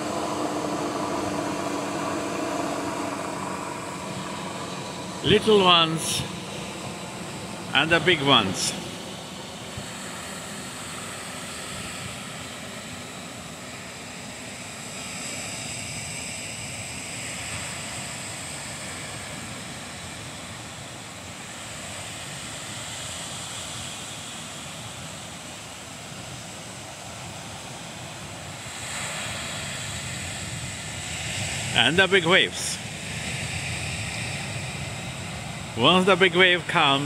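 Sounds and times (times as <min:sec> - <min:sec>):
ocean surf breaking on sand: 0:00.0 - 0:37.0.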